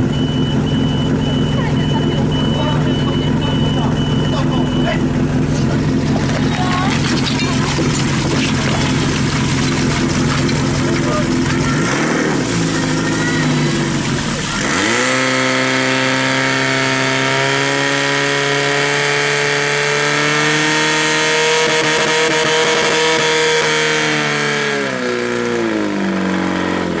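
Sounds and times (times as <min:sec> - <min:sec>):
pump engine revving: 0:00.0 - 0:27.0.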